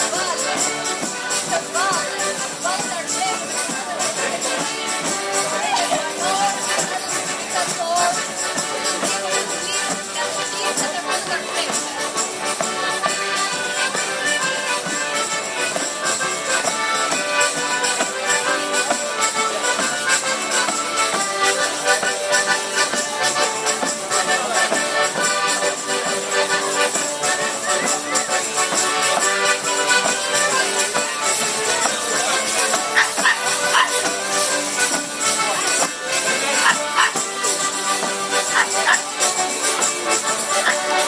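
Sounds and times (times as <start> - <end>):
accordions playing folk dance tune: 0.0 - 41.0.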